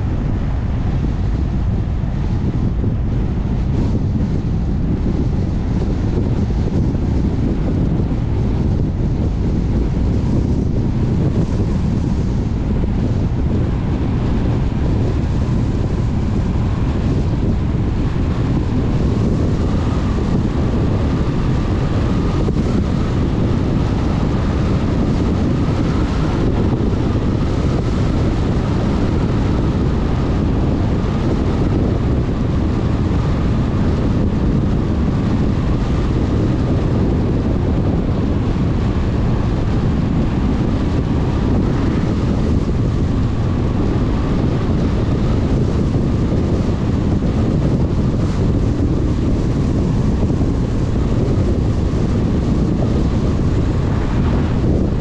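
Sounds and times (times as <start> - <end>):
car road and wind noise: 0.0 - 55.0.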